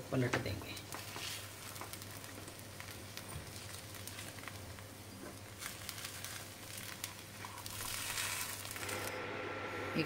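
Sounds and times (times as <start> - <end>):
faint sizzling in a pan: 0.0 - 10.0.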